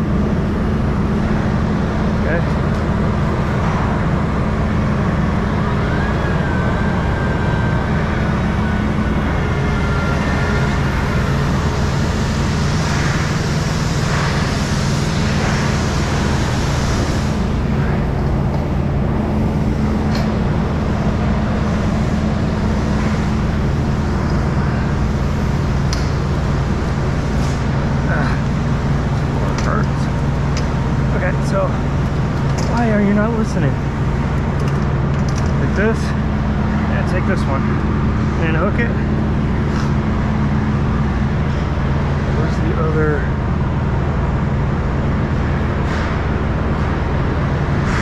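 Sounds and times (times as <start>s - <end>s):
low mechanical drone: 0.0s - 48.0s.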